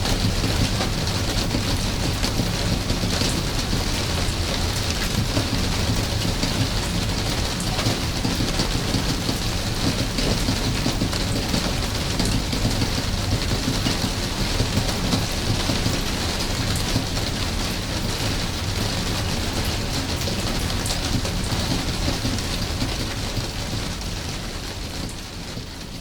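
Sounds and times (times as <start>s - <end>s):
rain drops ticking: 0.0s - 26.0s.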